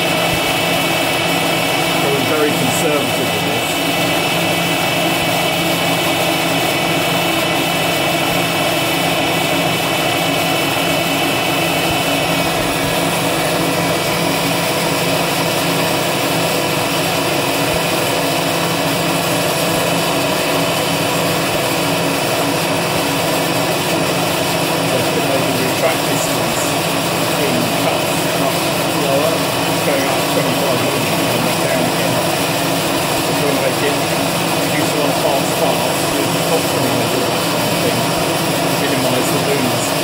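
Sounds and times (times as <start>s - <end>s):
milling machine spindle whine: 0.0s - 40.0s.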